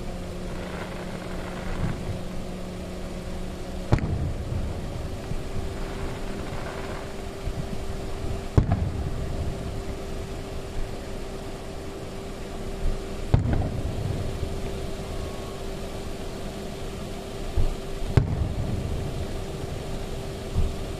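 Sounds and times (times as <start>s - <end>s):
low rumbling echo: 0.0s - 16.8s
firework bangs: 0.0s - 20.9s
steady hum: 0.0s - 20.9s.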